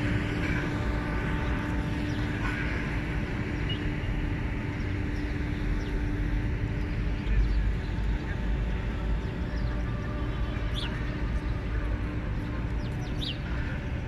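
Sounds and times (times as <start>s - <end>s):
distant engine drone: 0.0s - 14.0s.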